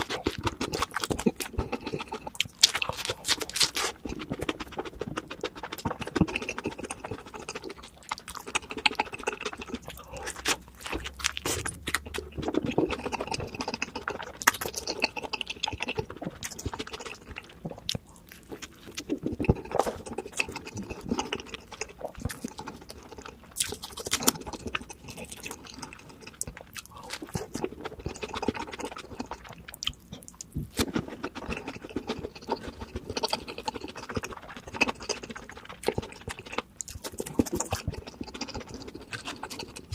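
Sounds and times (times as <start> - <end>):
person chewing crispy food: 0.0 - 39.9.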